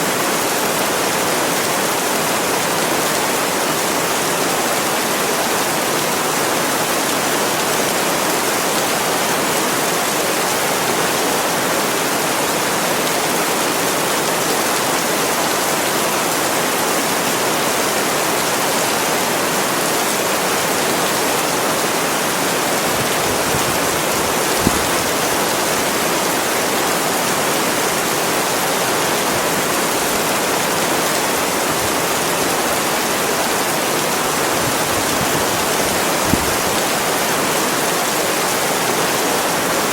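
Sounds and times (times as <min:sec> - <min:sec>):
heavy steady rain: 0:00.0 - 0:39.9.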